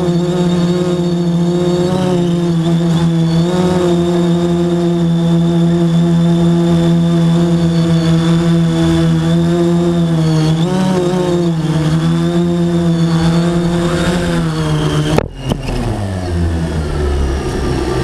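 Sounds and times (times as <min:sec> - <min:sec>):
drone motors humming: 0:00.0 - 0:18.0
propellers spinning down: 0:00.0 - 0:18.0.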